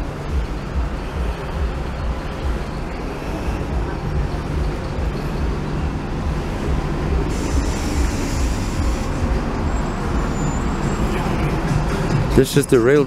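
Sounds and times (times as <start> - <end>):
street background rumble and hiss: 0.0 - 13.0.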